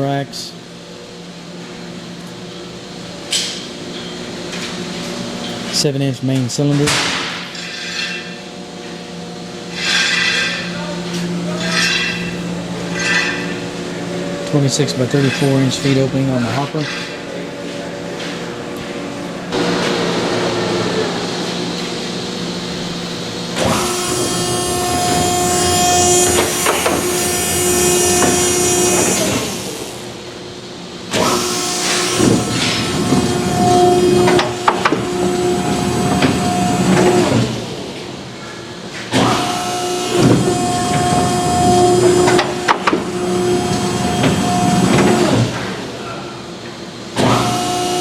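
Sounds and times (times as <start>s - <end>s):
machine whine and rattle: 0.0s - 48.0s
hydraulic power pack humming: 8.2s - 48.0s.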